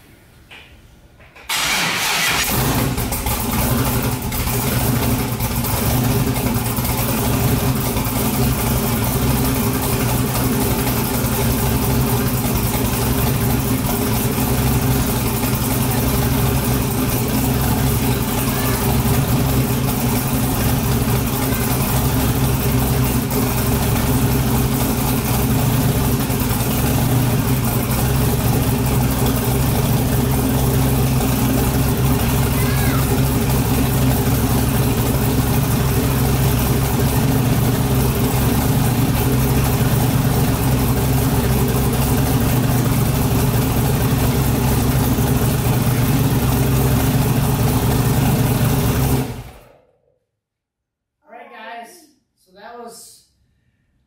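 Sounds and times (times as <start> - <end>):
car engine cranking and idling: 1.4 - 49.7.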